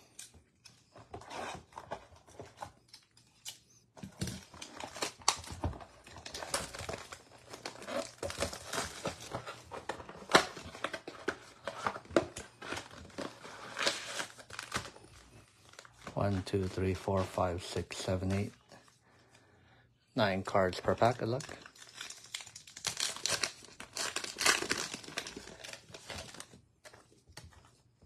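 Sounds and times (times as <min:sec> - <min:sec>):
wrapping and cardboard tearing: 0:00.0 - 0:16.3, 0:20.8 - 0:27.0.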